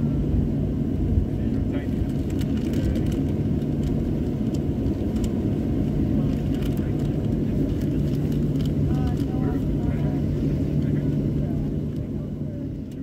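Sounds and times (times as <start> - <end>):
constant cabin hum: 0.0 - 13.0
low rumble of idling jet engines: 0.0 - 13.0.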